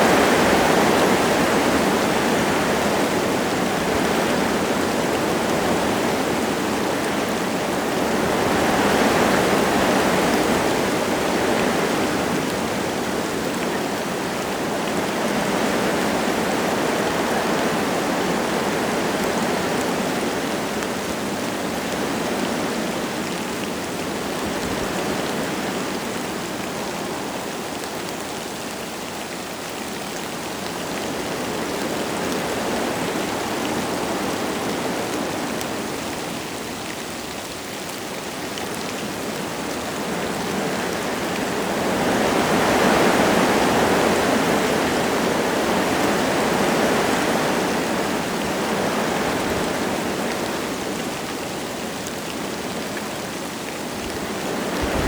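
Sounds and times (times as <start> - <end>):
light rain falling: 0.0 - 55.0
wind gusting through trees: 0.0 - 55.0.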